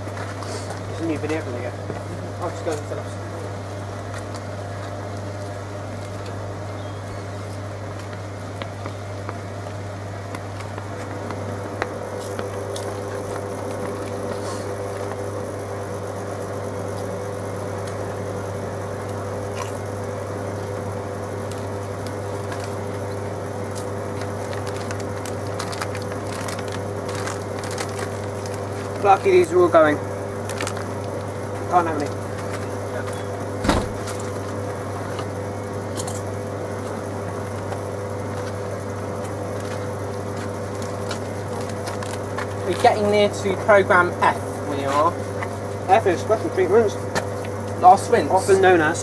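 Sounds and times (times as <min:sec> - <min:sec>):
washing machine hum: 0:00.0 - 0:49.0.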